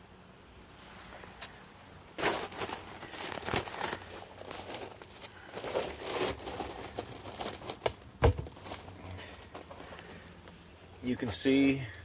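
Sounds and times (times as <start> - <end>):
crunching and rustling scuffs: 0.8 - 11.8.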